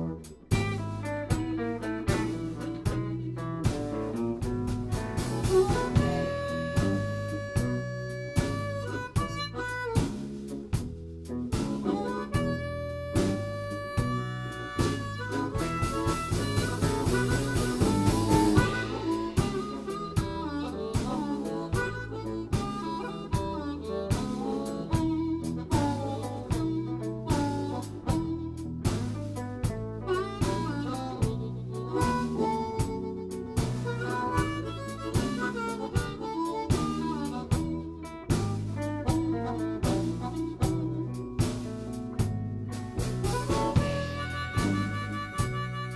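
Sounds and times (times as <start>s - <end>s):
blues band playing: 0.0s - 45.9s
harmonica playing: 0.0s - 45.9s.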